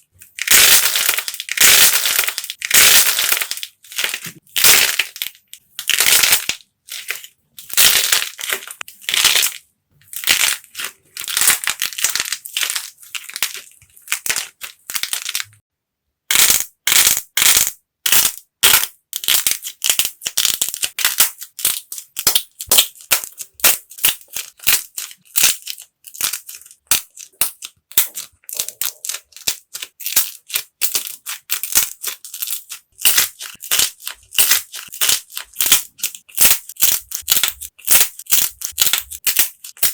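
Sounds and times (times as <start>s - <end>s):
dried clay crackling and crunching: 0.0s - 15.6s, 19.2s - 39.9s.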